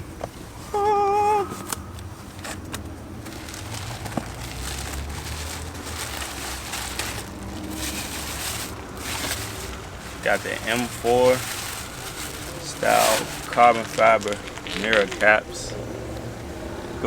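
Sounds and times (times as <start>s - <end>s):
packaging rustling and crinkling: 0.1s - 16.5s.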